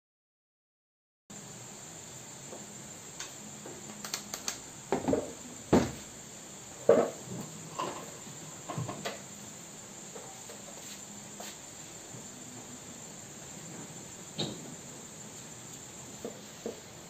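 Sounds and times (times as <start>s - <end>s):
steady high-pitched hiss: 1.3s - 17.0s.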